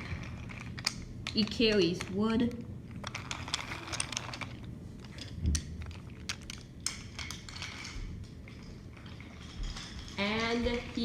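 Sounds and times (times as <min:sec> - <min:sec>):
wooden toy pieces clicking: 0:00.0 - 0:11.0.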